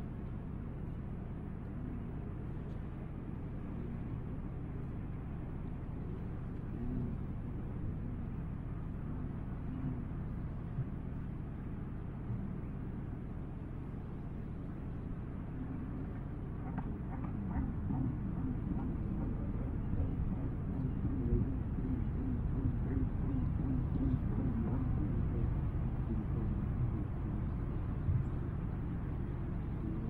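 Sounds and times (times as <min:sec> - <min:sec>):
low engine rumble: 0:00.0 - 0:30.0
faint wavering sounds: 0:01.6 - 0:30.0.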